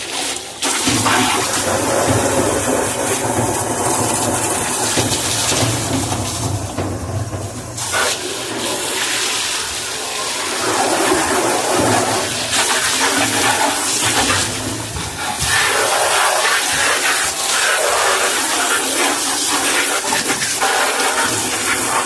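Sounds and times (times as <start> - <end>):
water sloshing in washing machine: 0.0 - 22.0.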